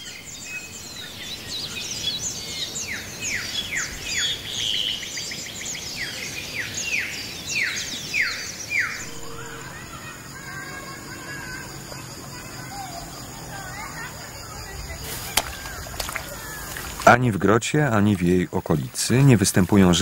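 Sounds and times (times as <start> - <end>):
birds chirping chorus: 0.0 - 20.0.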